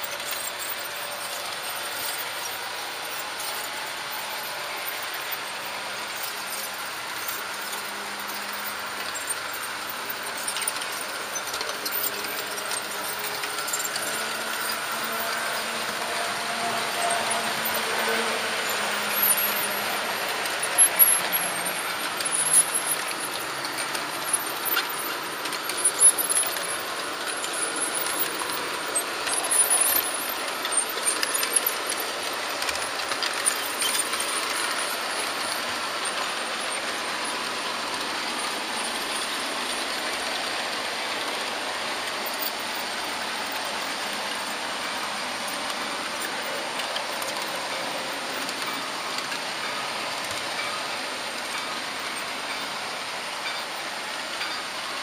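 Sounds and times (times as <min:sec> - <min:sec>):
model train whirring on track: 0:00.0 - 0:55.0.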